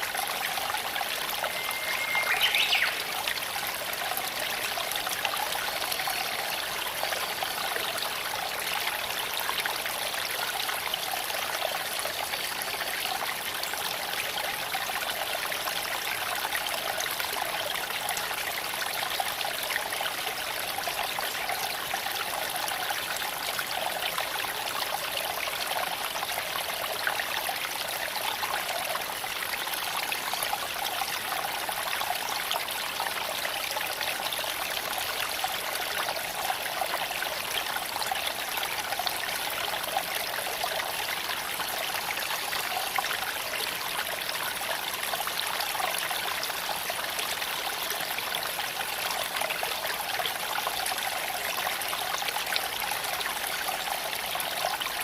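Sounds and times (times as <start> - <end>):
creek water flowing over stones: 0.0 - 55.0.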